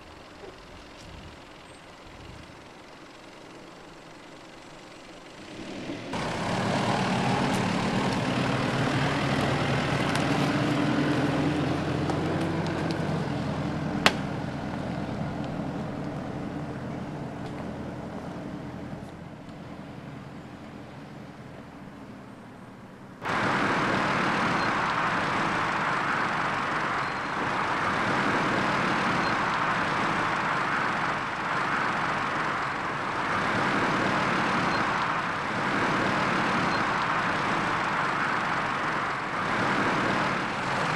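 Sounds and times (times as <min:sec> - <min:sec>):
off-road vehicle engine: 0:00.0 - 0:40.9
tyres on rough ground: 0:00.0 - 0:40.9.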